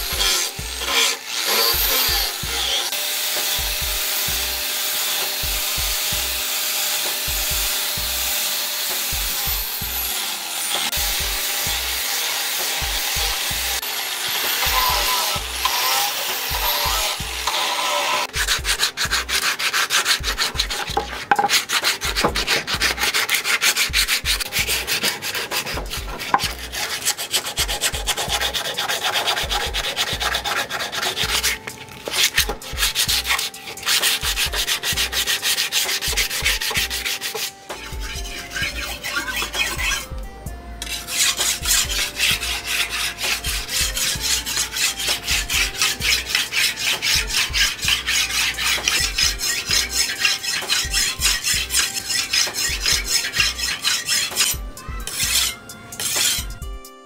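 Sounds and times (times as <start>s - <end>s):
sandpaper rubbing on wood: 0.0s - 40.2s, 40.8s - 56.6s.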